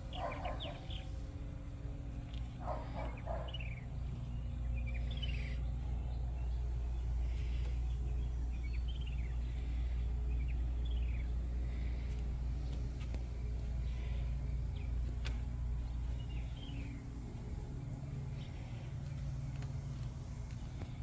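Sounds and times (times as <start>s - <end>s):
songbird chirping: 0.0s - 21.0s
steady low rumble: 0.0s - 21.0s.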